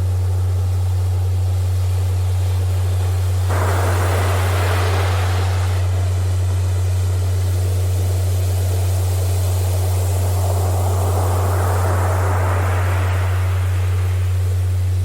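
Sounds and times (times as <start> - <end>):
steady low electronic tone: 0.0 - 15.0
ocean surf waves: 2.1 - 15.0.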